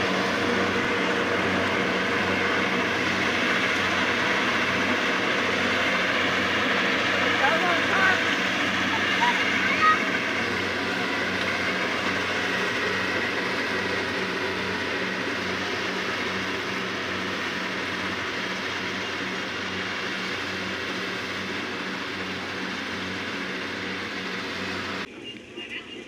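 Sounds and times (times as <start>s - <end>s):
combine harvester engine humming: 0.0s - 26.0s.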